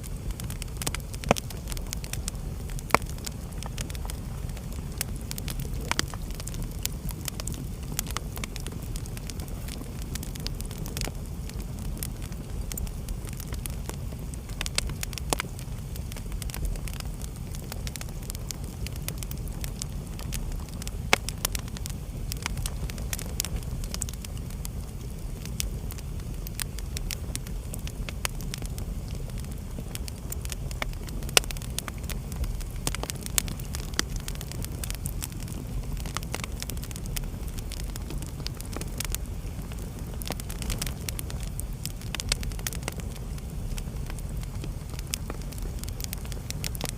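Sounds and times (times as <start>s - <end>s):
fire crackling and popping: 0.0s - 46.9s
fire rumbling: 0.0s - 46.9s.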